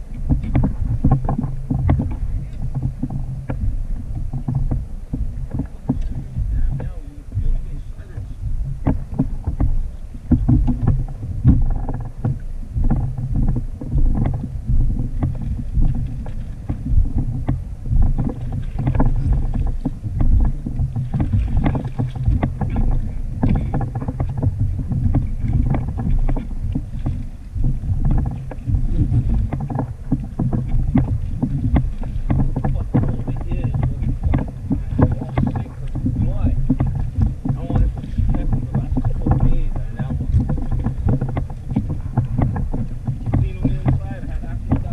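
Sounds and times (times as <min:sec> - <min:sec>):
water moving around kayak: 0:00.0 - 0:44.9
wind rumbling on microphone: 0:00.0 - 0:44.9.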